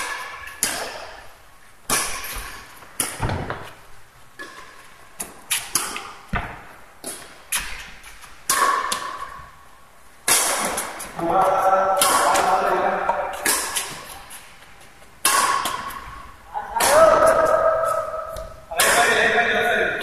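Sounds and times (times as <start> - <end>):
rackets striking shuttlecock: 0.0 - 1.2, 1.8 - 3.7, 4.4 - 9.6, 10.2 - 19.3.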